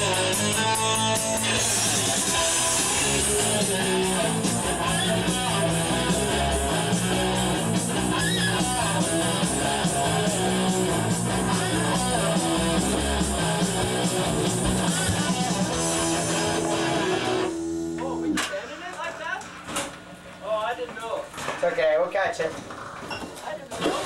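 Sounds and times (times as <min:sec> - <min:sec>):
rock music with guitar: 0:00.0 - 0:20.4.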